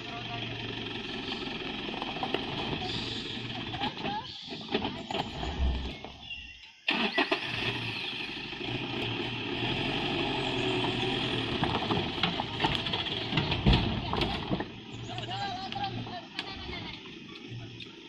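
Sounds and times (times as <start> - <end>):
pickup truck engine under load: 0.0 - 18.0.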